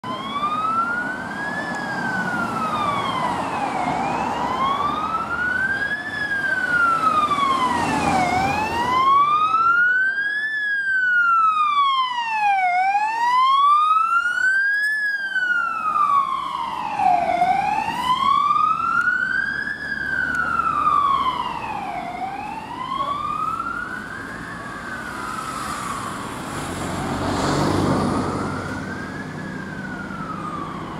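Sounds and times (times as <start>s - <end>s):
ambulance siren wailing: 0.0s - 30.9s
low traffic rumble: 0.0s - 30.9s.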